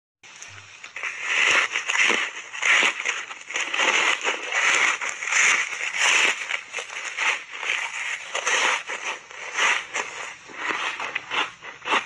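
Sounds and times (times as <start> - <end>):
crunching and chewing ice: 0.8 - 12.0.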